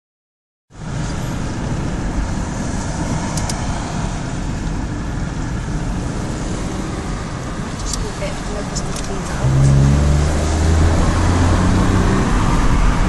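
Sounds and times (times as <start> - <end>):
car engine drone: 0.7 - 13.0
road and tyre noise: 0.7 - 13.0.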